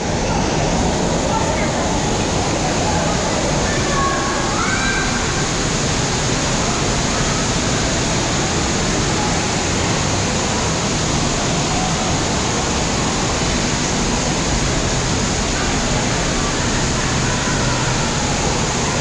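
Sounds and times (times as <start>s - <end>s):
distant voices: 0.0s - 19.0s
water rushing and splashing: 0.0s - 19.0s.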